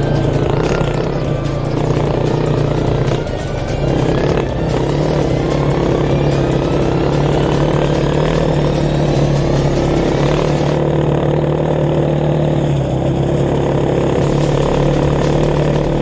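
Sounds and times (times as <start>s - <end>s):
dirt bike engine: 0.0s - 16.0s.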